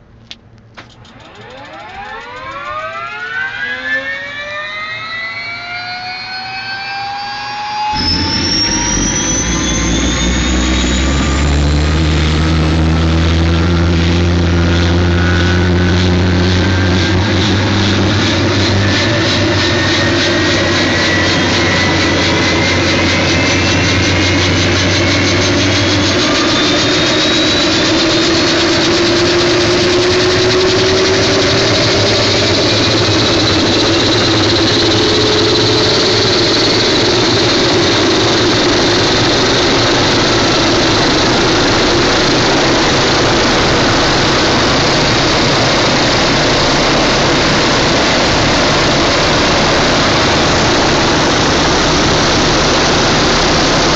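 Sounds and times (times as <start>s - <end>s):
helicopter turbine whine: 0.0s - 53.9s
low hum: 0.0s - 53.9s.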